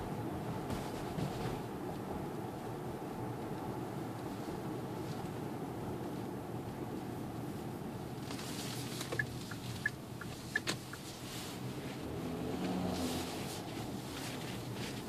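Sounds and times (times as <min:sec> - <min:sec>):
car engine and road hum: 0:01.6 - 0:15.0.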